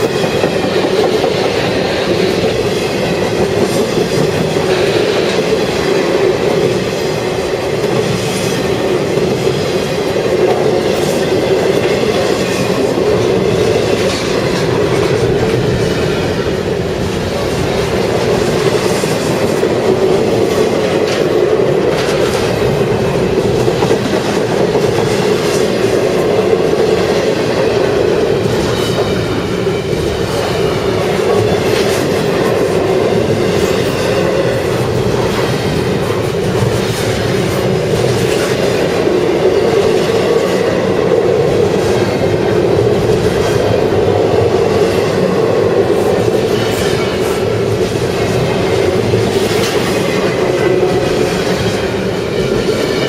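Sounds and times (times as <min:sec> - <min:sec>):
freight train rolling past: 0:00.0 - 0:53.0
wheels clicking over rail joints: 0:00.0 - 0:53.0.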